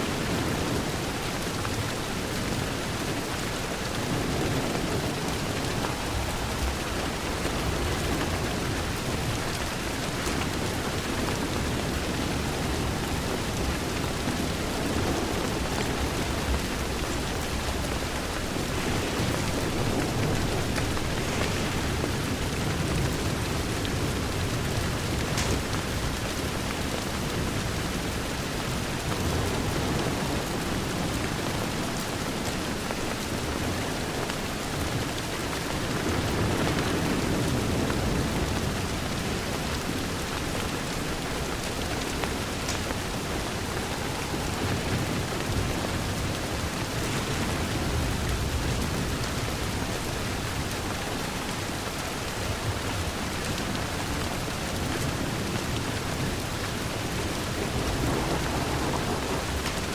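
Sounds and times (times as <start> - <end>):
distant thunder rumble: 0.0 - 32.2, 34.8 - 59.9
rain on a window: 0.0 - 59.9.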